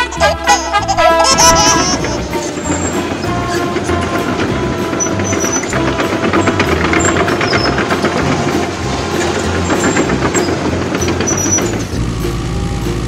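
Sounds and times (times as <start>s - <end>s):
cartoon excavator engine clatter: 0.0s - 13.0s.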